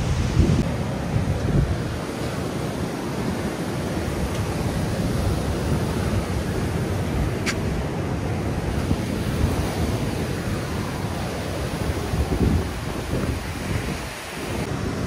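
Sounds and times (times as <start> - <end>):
surf breaking on a beach: 0.0 - 15.0
wind rumbling on microphone: 0.0 - 15.0.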